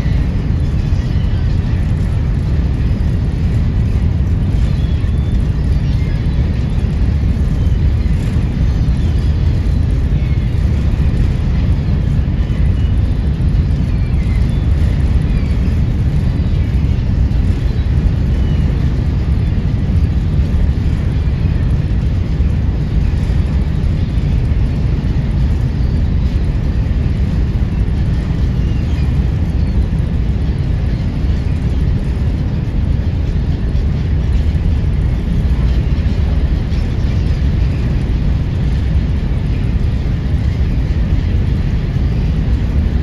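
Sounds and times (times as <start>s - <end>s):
low rumble of a ferry: 0.0s - 43.0s.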